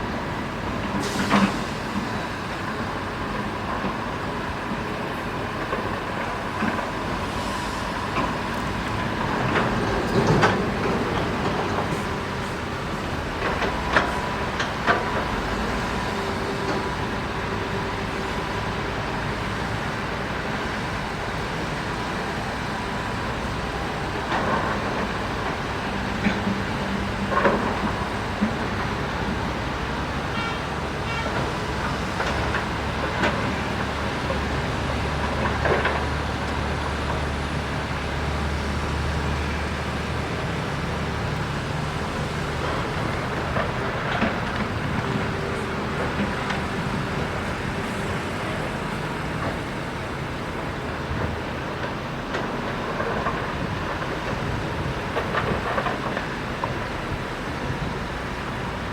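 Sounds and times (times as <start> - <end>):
diesel engines running: 0.0 - 58.9.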